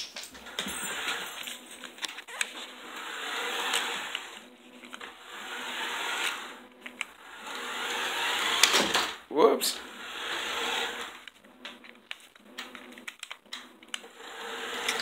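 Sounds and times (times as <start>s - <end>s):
toy car motor whirring: 0.4s - 15.0s.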